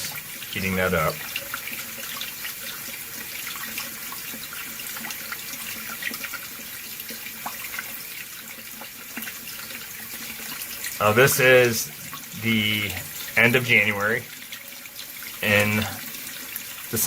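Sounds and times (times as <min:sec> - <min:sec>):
water running into a glass: 0:00.0 - 0:17.0
water splashes and drips: 0:00.0 - 0:17.0.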